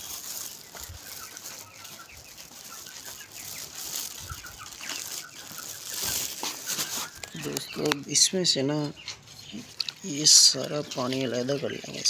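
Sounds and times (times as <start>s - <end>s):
young chickens clucking: 0.0s - 12.0s.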